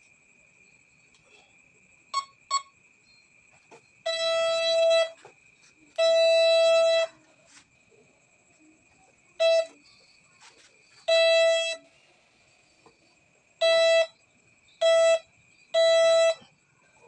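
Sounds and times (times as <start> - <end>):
faint steady high tone: 0.0 - 17.0.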